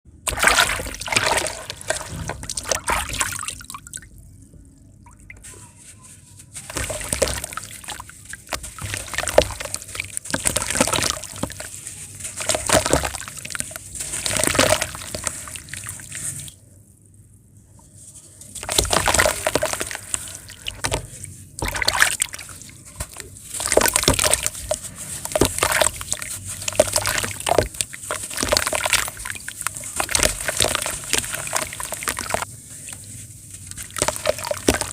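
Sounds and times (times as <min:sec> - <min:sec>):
sand lumps crumbling in water: 0:00.3 - 0:03.8, 0:06.6 - 0:16.5, 0:18.6 - 0:21.0, 0:21.6 - 0:32.5, 0:33.5 - 0:34.9.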